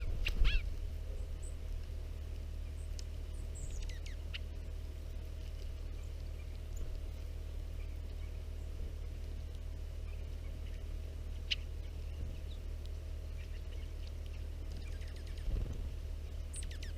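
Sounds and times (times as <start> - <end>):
songbirds chirping: 0.0 - 16.9
steady low hum: 0.0 - 16.9.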